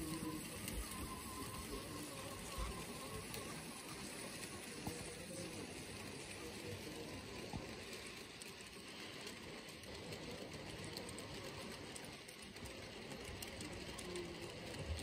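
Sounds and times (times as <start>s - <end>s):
faint irregular clicks: 0.0s - 15.0s
model train wheels on track: 0.0s - 15.0s.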